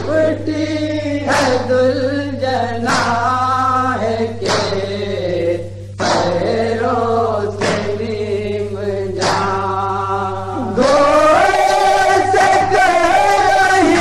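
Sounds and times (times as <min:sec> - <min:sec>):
men singing in chorus: 0:00.0 - 0:14.0.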